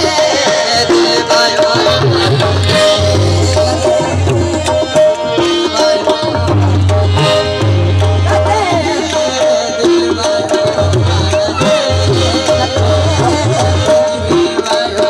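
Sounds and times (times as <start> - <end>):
harmonium notes: 0.0 - 15.0
tabla strokes: 0.0 - 15.0
wavering melody line: 0.0 - 15.0.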